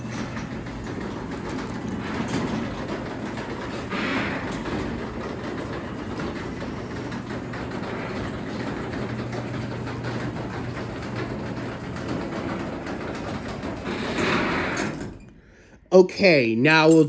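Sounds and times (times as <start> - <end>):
garage door opener motor hum: 0.0 - 15.6.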